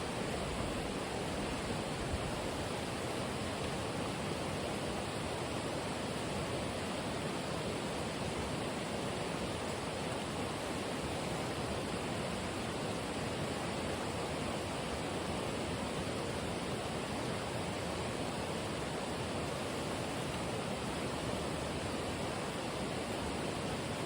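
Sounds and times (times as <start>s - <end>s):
outdoor ambience rushing noise: 0.0s - 24.0s.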